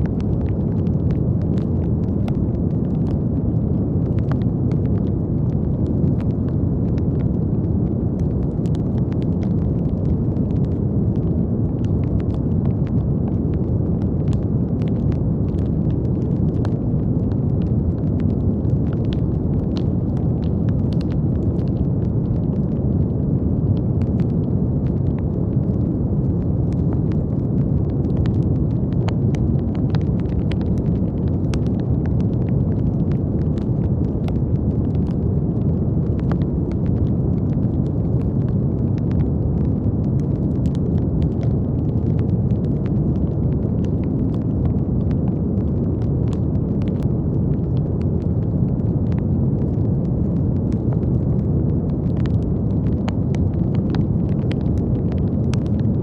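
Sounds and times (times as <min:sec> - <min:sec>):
brown noise rumbling hiss: 0:00.0 - 0:56.0
faint crackles: 0:00.0 - 0:56.0.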